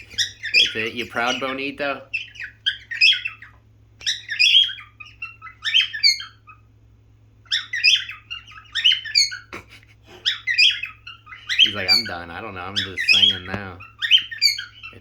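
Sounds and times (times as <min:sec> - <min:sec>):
cockatiel chirps and whistles: 0:00.0 - 0:06.7, 0:07.4 - 0:09.5, 0:10.2 - 0:15.0.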